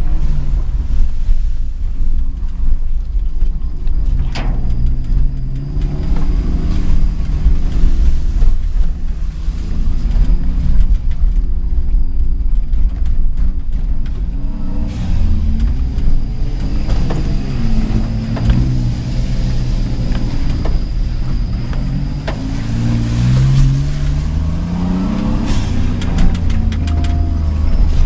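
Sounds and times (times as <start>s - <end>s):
car engine running under load: 0.0s - 28.0s.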